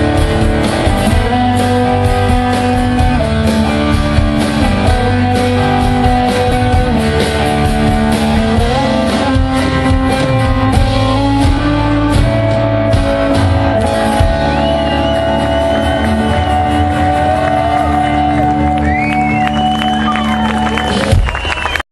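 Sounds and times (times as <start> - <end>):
high sliding guitar tones: 0.0 - 21.2
rock band playing: 0.0 - 21.8.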